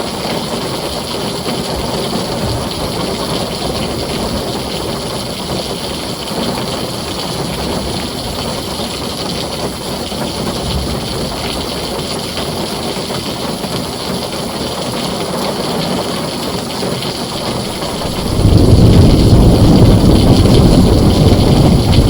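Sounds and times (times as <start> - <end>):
heavy rain on a tin roof: 0.0 - 22.0
deep rumble of thunder: 1.2 - 13.9, 17.0 - 22.0.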